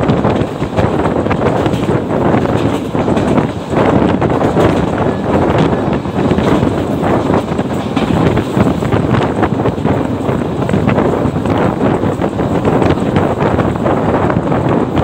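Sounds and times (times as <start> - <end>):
train rumbling and rattling: 0.0 - 15.0
wind on microphone: 0.0 - 15.0.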